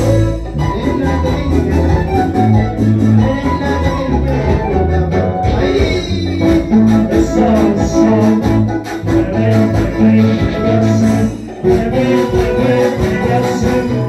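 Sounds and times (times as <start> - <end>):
music with pulsing bass: 0.0 - 14.0.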